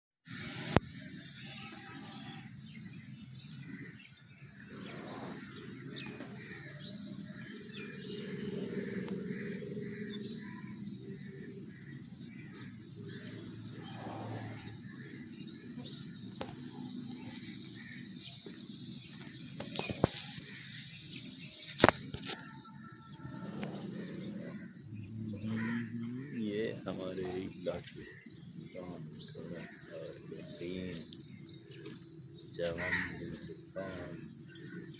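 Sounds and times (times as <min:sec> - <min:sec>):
bird chirps: 0:00.3 - 0:34.9.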